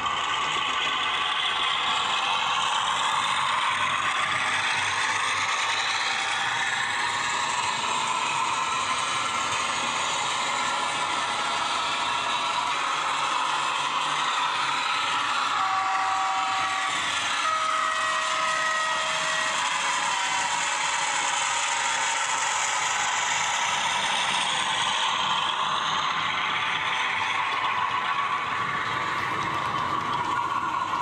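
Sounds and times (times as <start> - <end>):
model train wheels clattering: 0.0 - 31.0.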